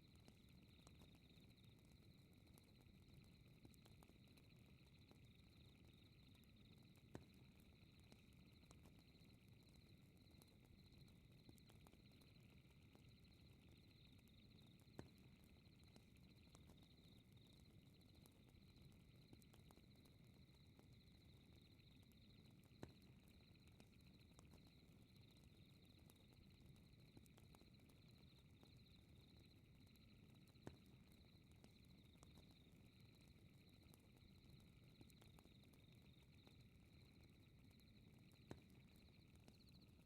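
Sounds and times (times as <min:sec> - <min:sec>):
pulsing night insect chirr: 0:00.0 - 0:40.0.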